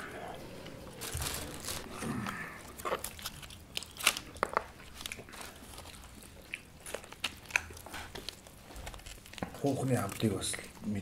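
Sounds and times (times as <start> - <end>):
crunching and cracking bone: 1.0 - 10.9
meat tearing: 1.1 - 10.9.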